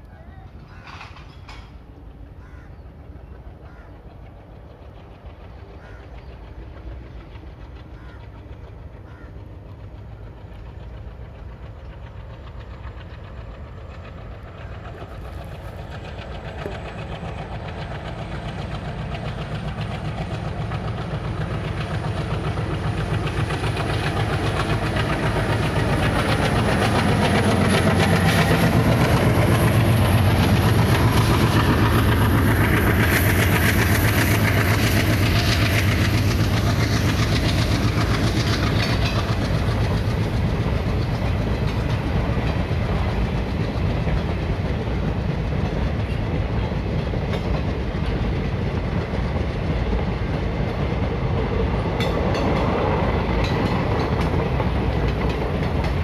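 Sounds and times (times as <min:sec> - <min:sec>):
diesel locomotive engine: 0:00.0 - 0:56.0
train wheels on rails: 0:00.0 - 0:56.0.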